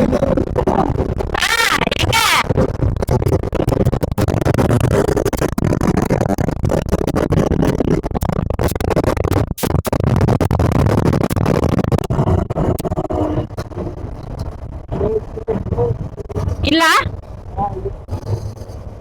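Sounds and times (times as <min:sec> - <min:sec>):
wind buffeting on microphone: 0:00.0 - 0:19.0.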